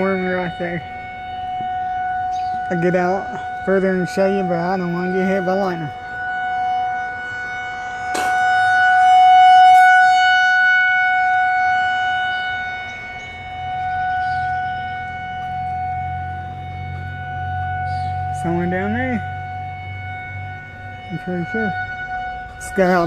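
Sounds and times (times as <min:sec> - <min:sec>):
warning siren wailing: 0:00.0 - 0:23.0.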